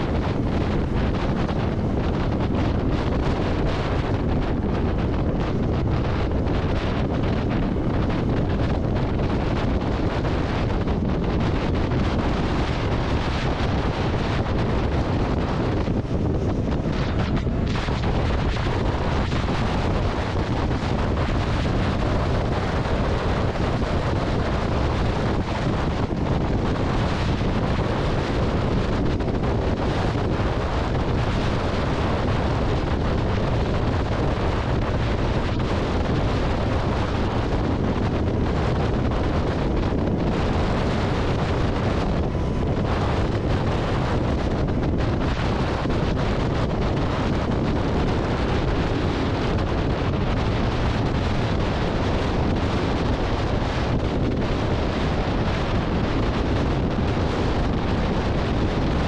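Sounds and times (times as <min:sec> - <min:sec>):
road noise: 0:00.0 - 0:59.0
wind rushing on microphone: 0:00.0 - 0:59.0.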